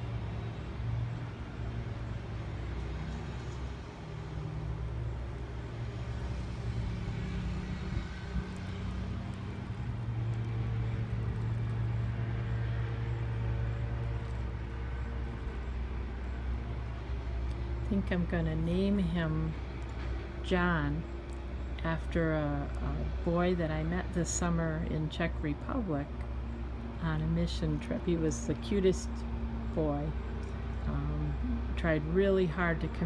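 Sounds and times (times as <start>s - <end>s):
low mechanical motor hum: 0.0s - 33.0s.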